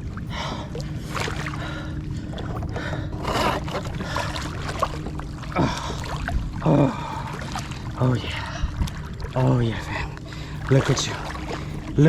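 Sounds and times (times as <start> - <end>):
shallow water splashing: 0.0 - 12.0
wind: 0.0 - 12.0.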